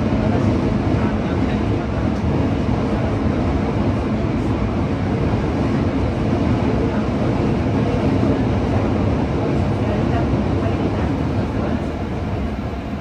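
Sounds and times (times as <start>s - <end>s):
train wheels rumbling in tunnel: 0.0s - 13.0s.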